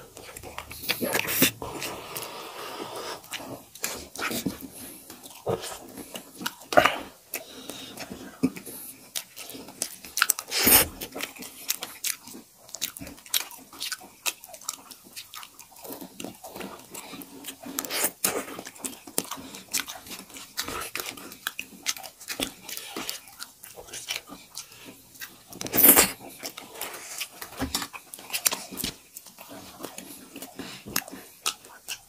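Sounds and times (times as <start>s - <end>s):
people chewing noodles: 0.0s - 32.0s.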